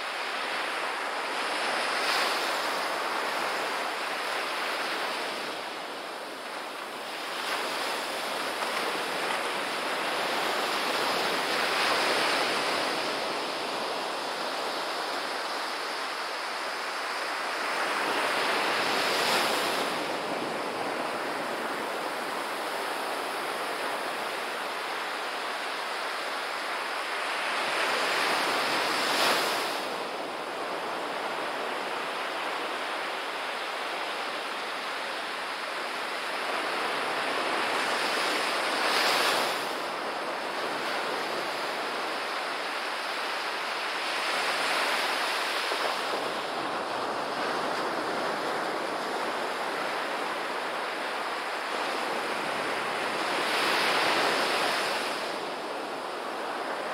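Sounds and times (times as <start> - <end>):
waves breaking on sandy beach: 0.0 - 56.9.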